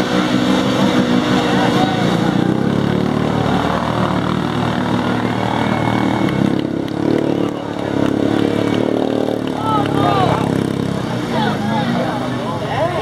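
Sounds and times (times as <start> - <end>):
churning through mud and water: 0.0 - 13.0
engine running under load: 0.0 - 13.0.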